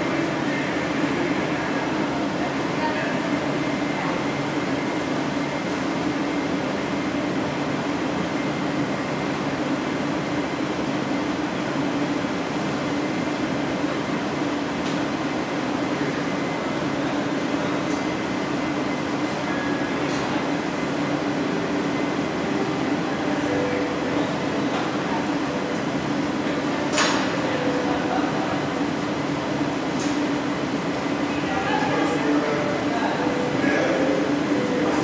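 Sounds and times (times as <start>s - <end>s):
blowers and fans running: 0.0s - 35.0s
gas furnace roaring: 0.0s - 35.0s.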